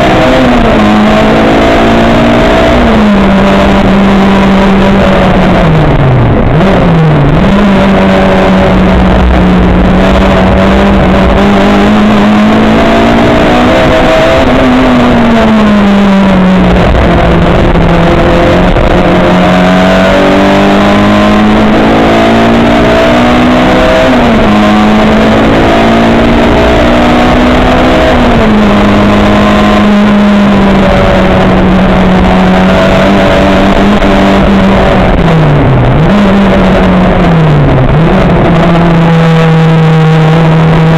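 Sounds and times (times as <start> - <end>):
race car engine: 0.0 - 40.9.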